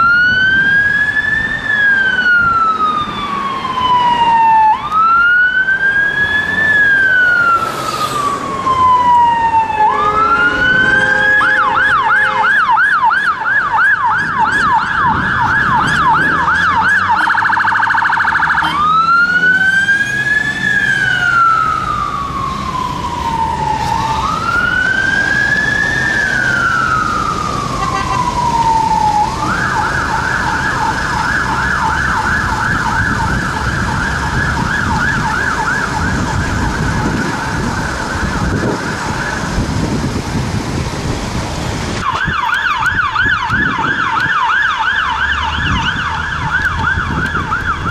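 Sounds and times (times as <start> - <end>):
ambulance siren wailing and yelping: 0.0 - 40.0, 42.0 - 47.9
engine and traffic noise: 0.0 - 47.9.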